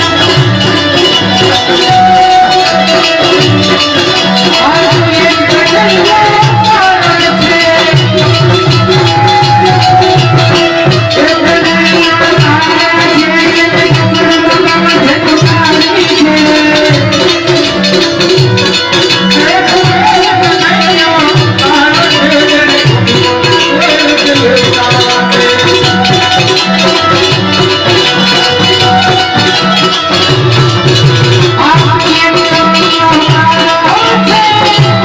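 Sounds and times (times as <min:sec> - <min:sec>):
music with fast percussion beat: 0:00.0 - 0:35.0.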